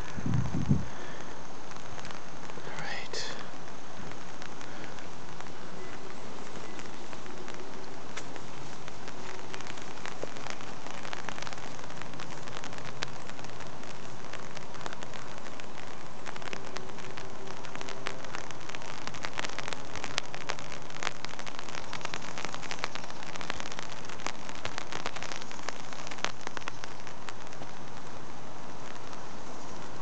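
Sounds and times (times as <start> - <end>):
rain pattering on an umbrella: 0.0 - 30.0.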